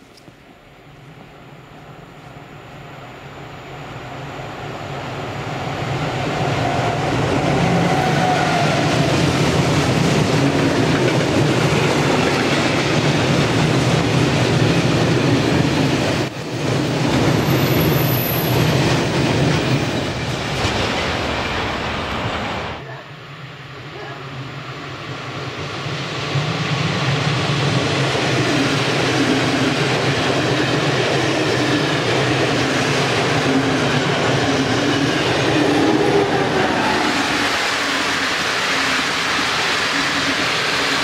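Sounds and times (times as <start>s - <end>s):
freight train rolling past: 0.0s - 41.0s
steel wheels rumbling on rail: 3.1s - 22.9s, 23.5s - 41.0s.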